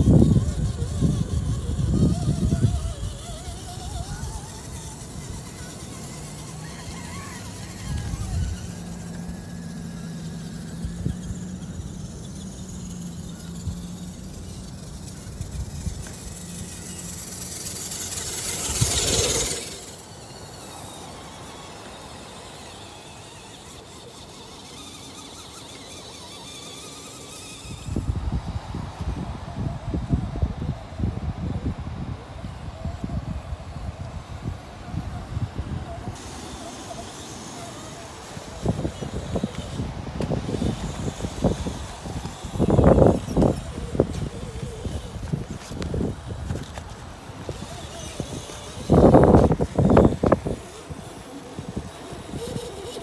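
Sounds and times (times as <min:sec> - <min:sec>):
electric motor and gears whining: 0:00.0 - 0:53.0.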